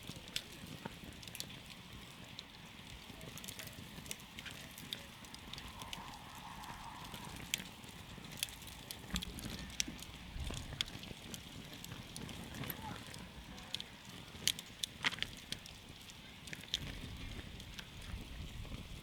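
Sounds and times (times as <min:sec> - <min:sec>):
campfire crackling and popping: 0:00.0 - 0:19.0
low steady fire rush: 0:00.0 - 0:19.0.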